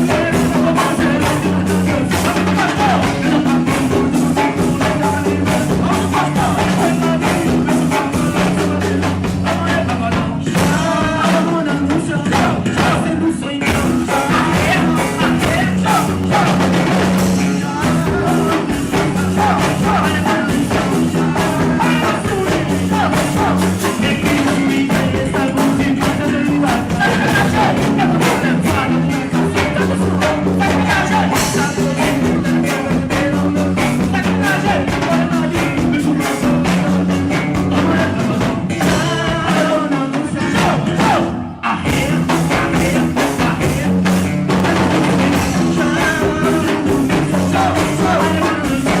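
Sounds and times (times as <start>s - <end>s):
song with vocals over a beat: 0.0s - 49.0s.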